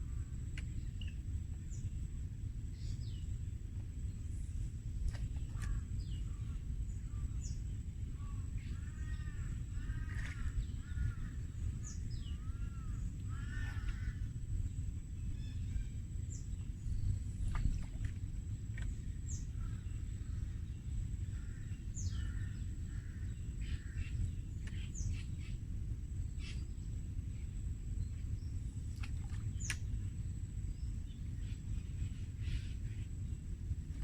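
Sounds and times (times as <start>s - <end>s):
constant low rumble: 0.0s - 34.0s.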